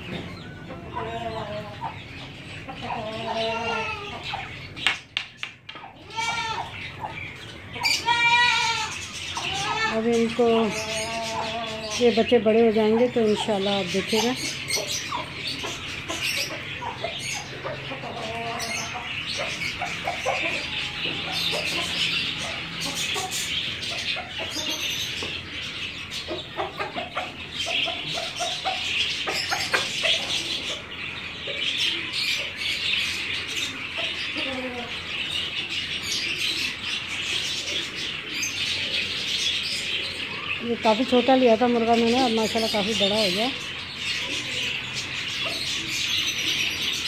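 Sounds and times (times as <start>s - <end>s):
chickens clucking: 0.0s - 47.0s
chicks peeping: 0.0s - 47.0s.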